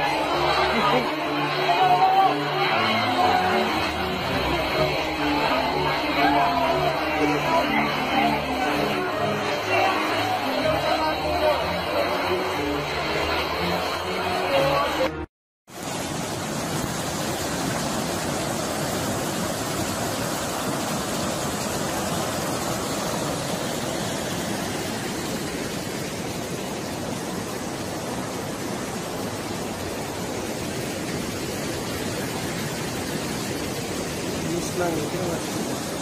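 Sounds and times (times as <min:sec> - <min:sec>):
river rushing over rocks: 0:00.0 - 0:36.0.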